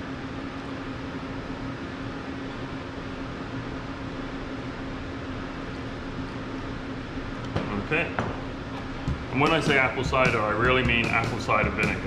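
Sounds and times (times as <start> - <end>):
ventilation fan hum and rush: 0.0 - 12.0.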